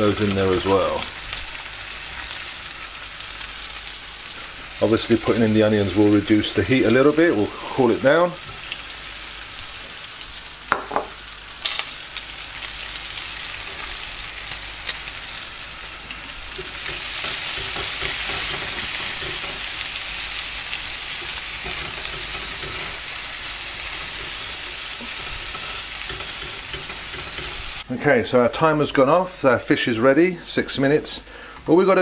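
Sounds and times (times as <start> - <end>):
bacon and onion sizzling in pan: 0.0 - 27.9.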